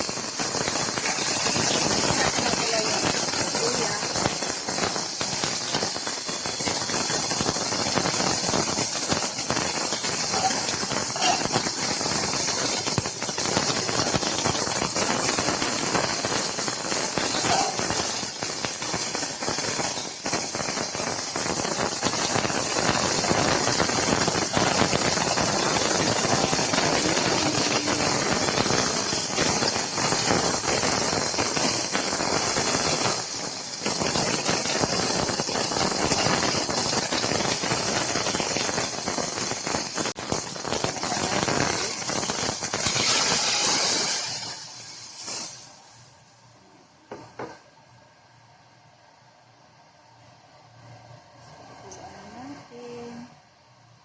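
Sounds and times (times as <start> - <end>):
food sizzling in hot oil: 0.0 - 46.4.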